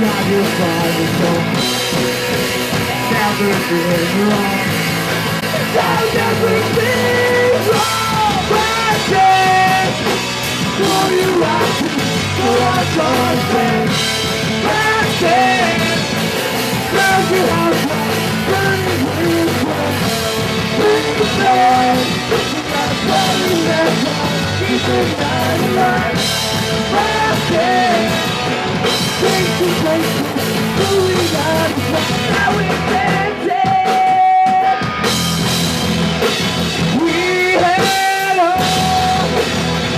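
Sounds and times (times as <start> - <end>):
person singing lead vocal: 0.0 - 35.2, 36.8 - 39.8
punk rock band playing: 0.0 - 39.9.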